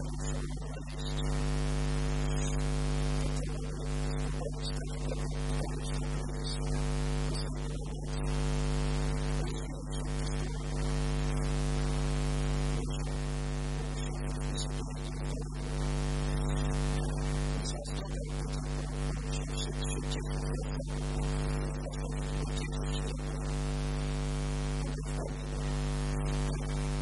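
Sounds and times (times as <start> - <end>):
loud mains hum: 0.0 - 27.0.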